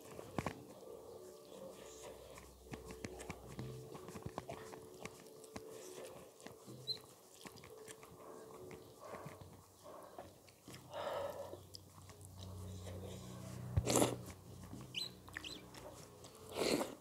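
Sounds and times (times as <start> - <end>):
close-up chewing: 0.0 - 17.0
fingers squishing wet rice: 0.0 - 17.0.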